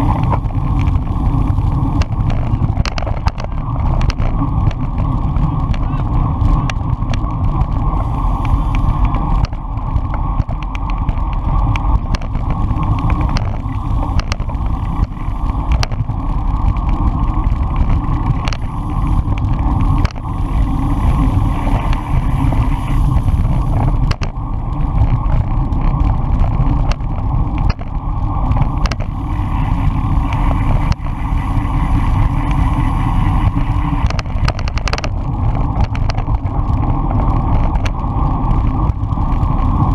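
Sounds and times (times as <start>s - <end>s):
sharp clicks from road jolts: 0.0s - 39.9s
wind buffeting and road rumble: 0.0s - 39.9s.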